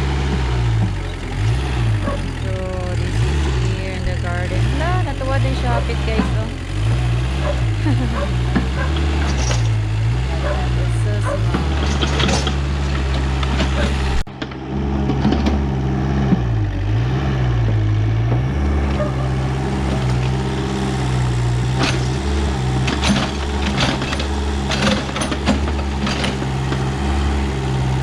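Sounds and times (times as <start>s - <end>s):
backhoe engine running: 0.0s - 28.0s.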